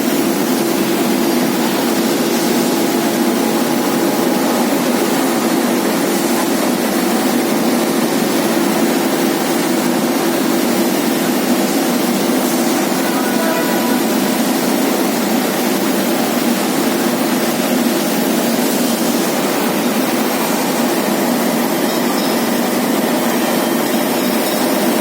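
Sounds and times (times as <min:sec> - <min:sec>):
washing machine drone: 0:00.0 - 0:25.0.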